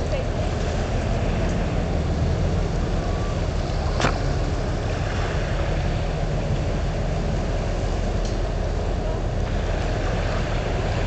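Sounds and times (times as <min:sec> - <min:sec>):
ship engine rumble: 0:00.0 - 0:11.0
water: 0:00.0 - 0:11.0.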